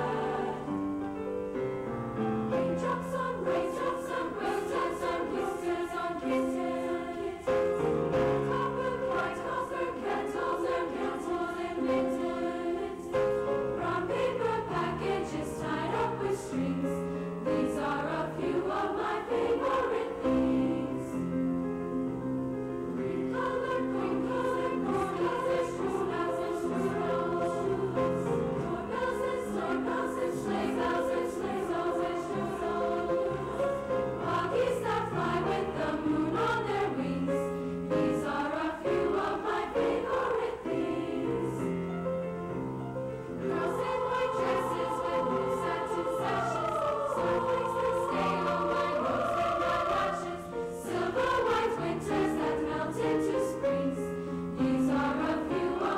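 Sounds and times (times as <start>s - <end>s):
choir singing: 0.0s - 55.9s.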